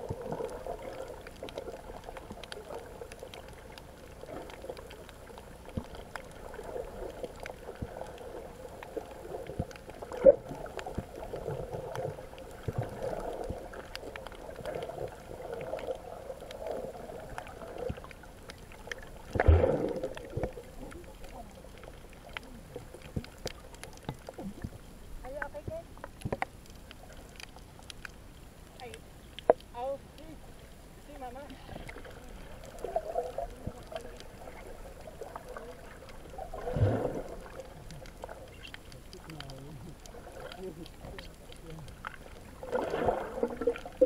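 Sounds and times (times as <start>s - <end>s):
muffled underwater wash: 0.0s - 44.0s
small clicks underwater: 0.0s - 44.0s.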